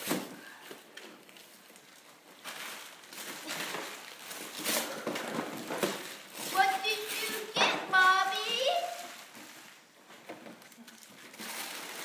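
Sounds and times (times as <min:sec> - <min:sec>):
wrapping paper rustling: 0:00.0 - 0:12.0.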